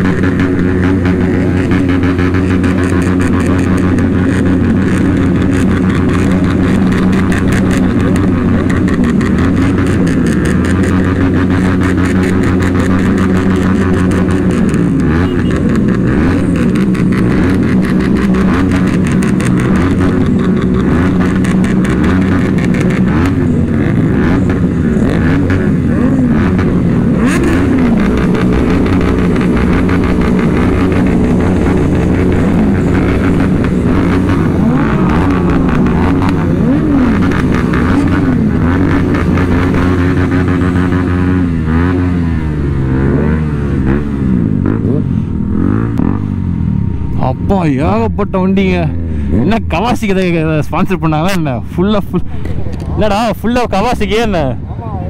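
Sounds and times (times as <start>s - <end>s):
engine revving: 0.0s - 55.0s
vehicle engines running: 0.0s - 55.0s.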